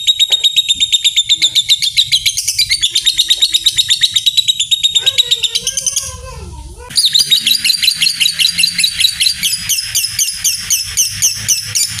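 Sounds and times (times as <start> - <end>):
lovebird chattering chirps: 0.0 - 6.3, 6.9 - 12.0.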